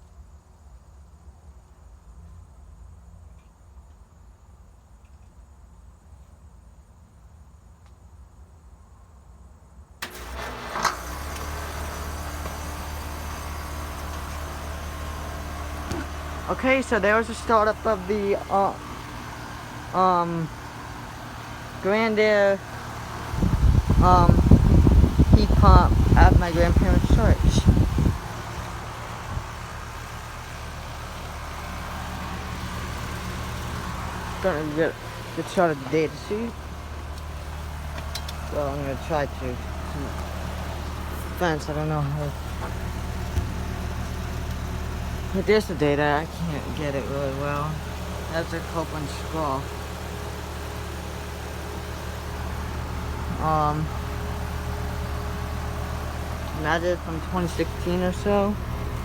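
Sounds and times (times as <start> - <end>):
fan rushing: 10.0 - 59.0
heat pump humming: 10.0 - 59.0.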